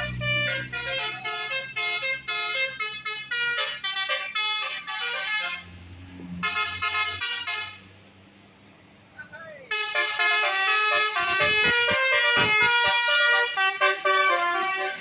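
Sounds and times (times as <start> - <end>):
multi-tone musical bus horn: 0.0 - 8.0, 9.7 - 15.0.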